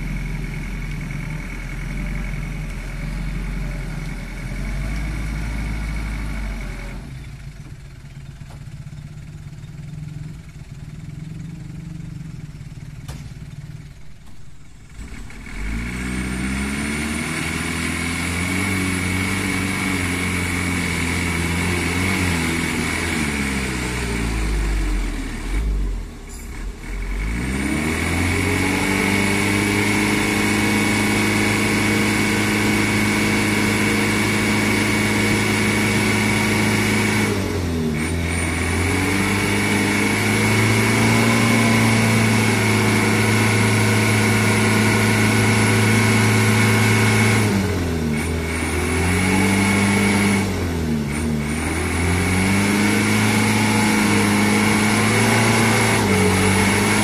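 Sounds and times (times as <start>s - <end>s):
truck engine revving hard: 1.4s - 7.1s, 14.7s - 57.0s.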